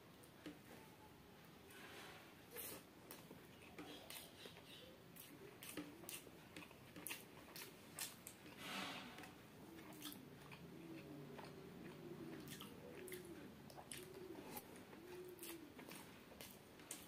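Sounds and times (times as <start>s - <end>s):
chewing: 2.5s - 8.6s, 9.2s - 17.0s.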